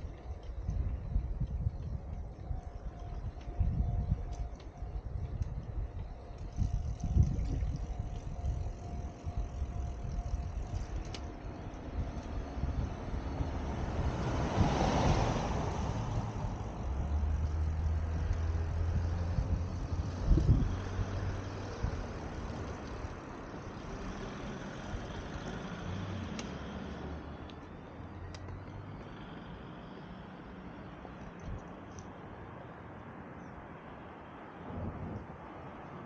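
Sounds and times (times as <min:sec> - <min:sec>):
low engine drone: 0:00.0 - 0:31.2
vehicle passing: 0:00.0 - 0:31.4.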